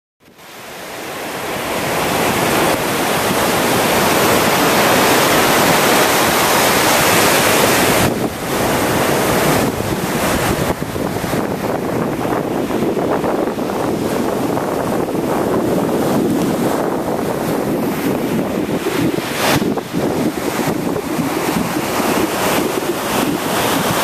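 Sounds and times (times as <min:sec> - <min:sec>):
waves breaking on beach: 0:00.3 - 0:24.0
wind buffeting microphone: 0:00.3 - 0:24.0.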